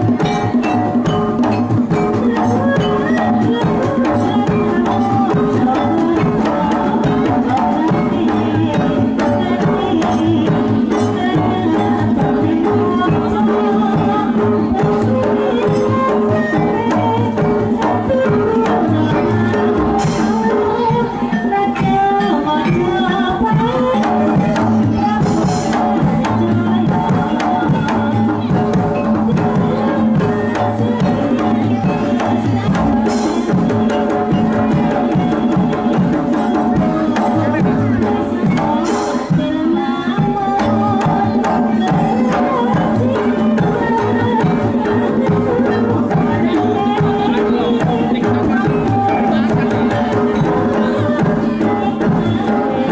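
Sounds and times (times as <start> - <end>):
hand drums driving rhythm: 0.0 - 52.9.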